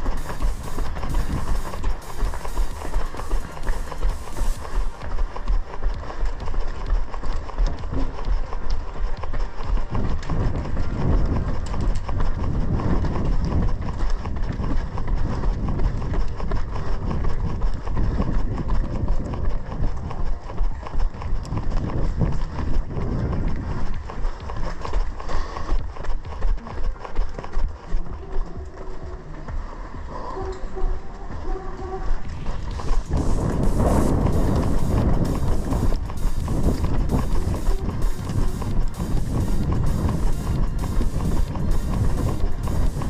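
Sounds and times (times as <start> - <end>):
running footsteps on cobblestones: 0.0 - 43.0.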